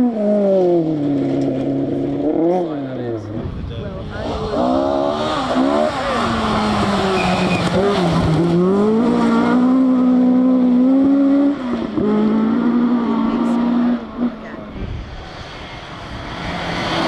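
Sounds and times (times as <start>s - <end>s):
rally car engine revving high: 0.0s - 17.0s.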